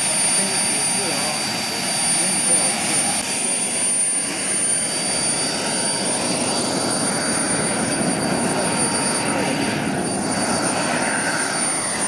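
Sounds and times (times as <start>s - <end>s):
jet turbine running: 0.0s - 12.0s.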